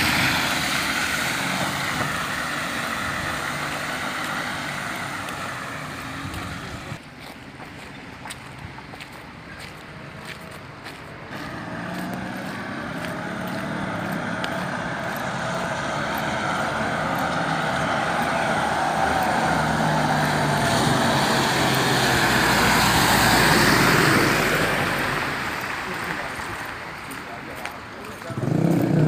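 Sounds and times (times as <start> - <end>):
vehicle engine and tyre noise: 0.0 - 29.0.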